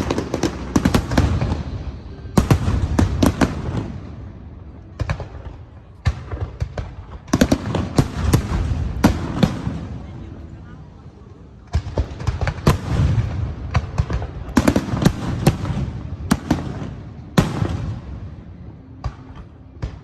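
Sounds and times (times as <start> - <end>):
fireworks bursting with sharp bangs: 0.0 - 10.8, 11.5 - 20.0.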